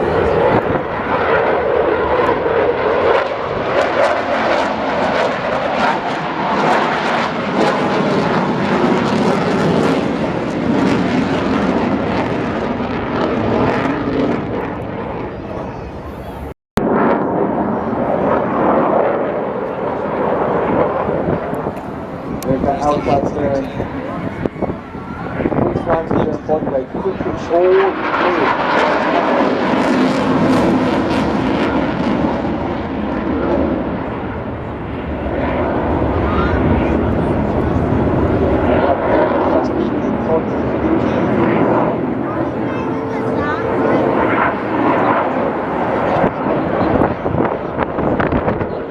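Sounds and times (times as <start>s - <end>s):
aircraft engine running: 0.0s - 48.9s.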